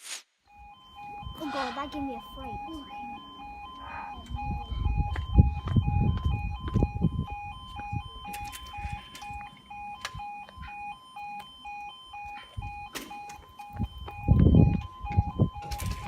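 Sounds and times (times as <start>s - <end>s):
level crossing alarm two-tone yelp: 0.5s - 16.0s.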